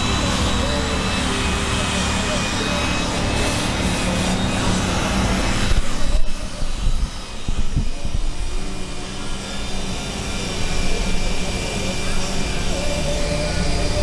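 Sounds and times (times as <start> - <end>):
electric rotary tool on wood: 0.0 - 14.0.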